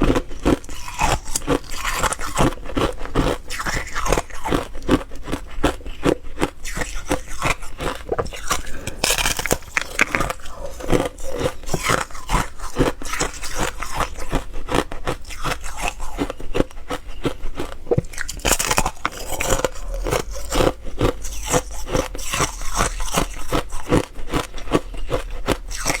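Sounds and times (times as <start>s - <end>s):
ice being chewed: 0.0s - 26.0s.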